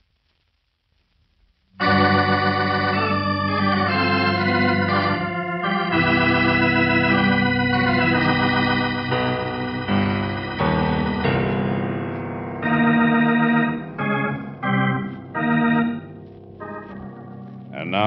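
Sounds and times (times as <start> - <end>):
organ chords: 1.8 - 18.0.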